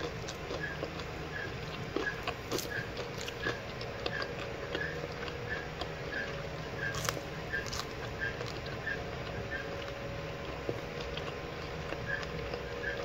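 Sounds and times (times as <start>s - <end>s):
fried chicken skin crackling: 0.0s - 13.0s.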